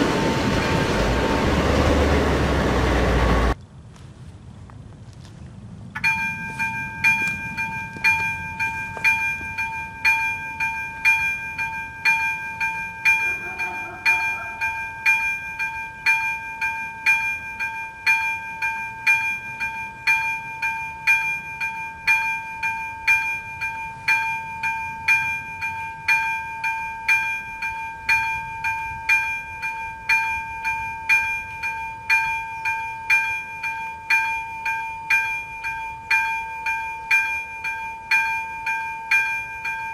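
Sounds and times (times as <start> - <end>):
level crossing bell ringing: 6.0 - 39.9.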